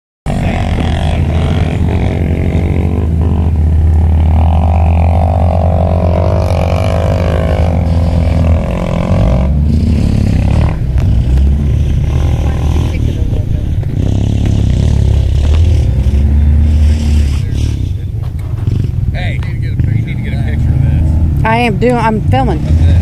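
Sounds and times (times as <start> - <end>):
off-road vehicle engine under load: 0.3 - 23.0.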